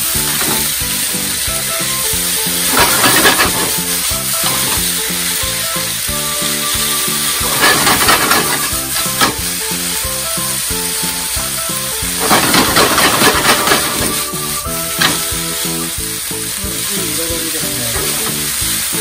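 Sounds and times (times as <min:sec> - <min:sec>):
noodles sizzling in a frying pan: 0:00.0 - 0:19.0.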